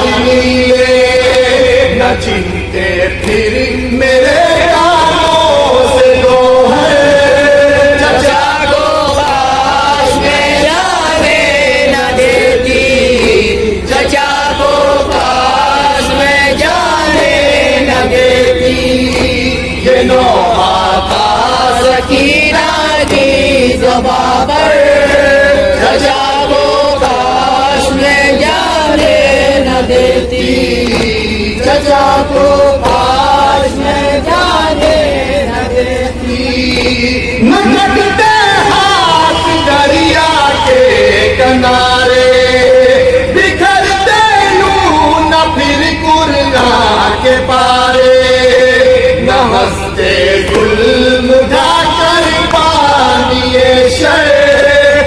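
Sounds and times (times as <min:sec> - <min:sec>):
low hum: 0:00.0 - 0:55.0
men chanting into a microphone: 0:00.0 - 0:55.0.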